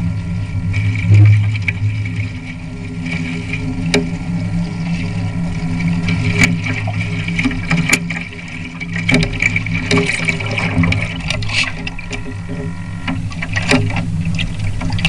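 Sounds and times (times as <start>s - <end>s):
steady low hum: 0.0s - 15.0s
water rushing against boat hull: 0.0s - 15.0s.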